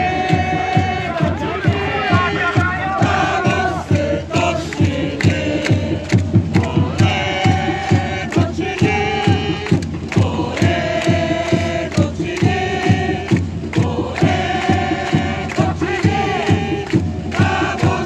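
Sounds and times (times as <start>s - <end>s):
crowd chanting in unison: 0.0s - 18.0s
steady drumbeat: 0.0s - 18.0s.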